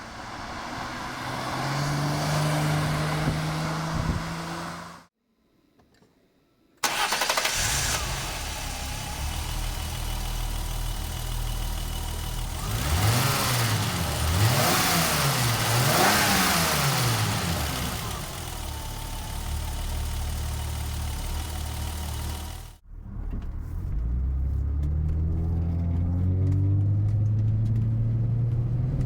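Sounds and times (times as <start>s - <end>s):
car engine idling and revving: 0.0s - 5.1s, 6.9s - 29.0s.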